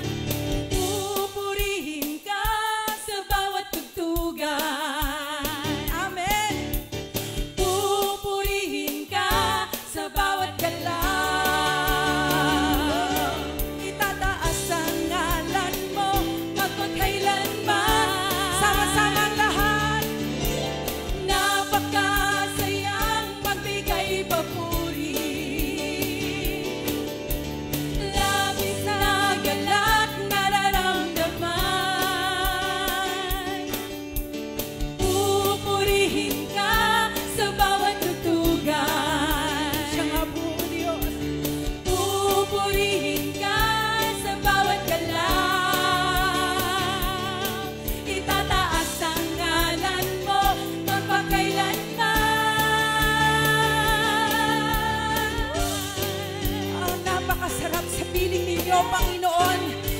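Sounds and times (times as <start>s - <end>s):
acoustic guitar: 0.0s - 2.1s, 4.8s - 59.9s
women singing: 0.7s - 6.8s, 7.6s - 20.4s, 21.1s - 27.1s, 27.8s - 33.8s, 35.0s - 59.9s.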